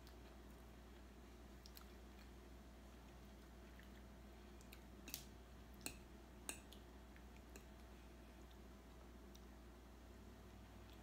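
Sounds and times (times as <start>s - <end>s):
quiet chewing: 0.0s - 9.7s, 10.4s - 11.0s
low steady hum: 0.0s - 11.0s.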